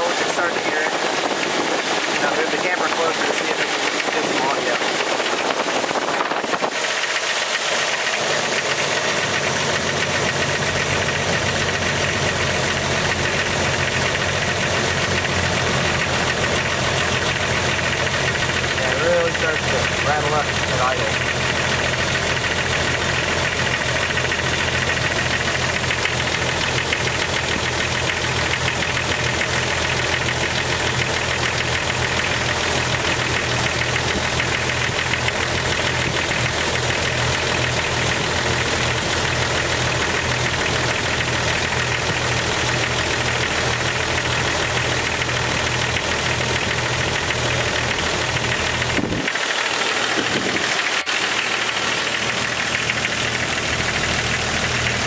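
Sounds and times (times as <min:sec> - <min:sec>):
car engine idling: 0:00.0 - 0:55.0
valvetrain ticking: 0:00.0 - 0:55.0.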